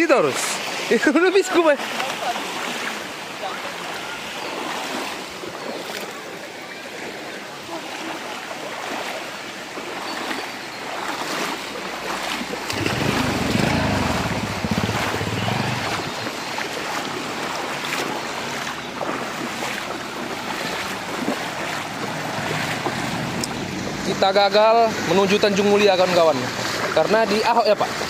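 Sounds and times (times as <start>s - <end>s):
floodwater sloshing and splashing: 0.0s - 28.0s.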